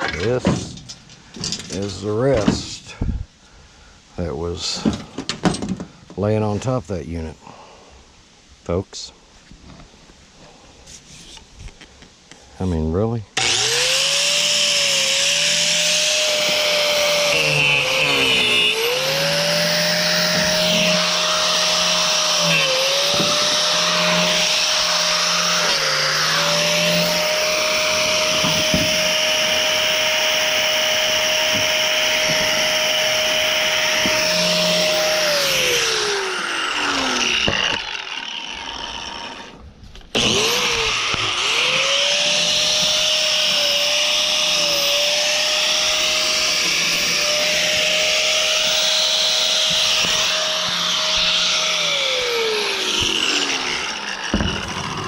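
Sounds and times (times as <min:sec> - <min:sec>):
power tool whining: 0:00.0 - 0:03.2, 0:13.4 - 0:55.0.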